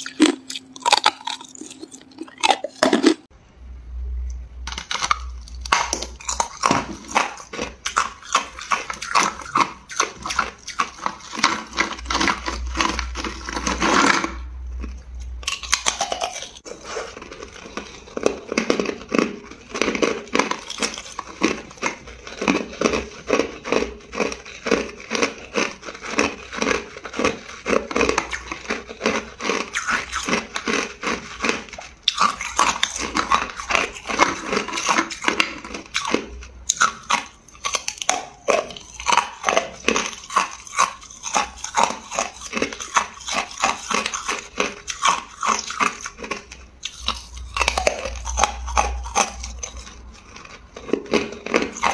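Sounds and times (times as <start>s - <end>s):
ice being chewed and crunched: 0.0s - 3.3s, 4.7s - 51.9s.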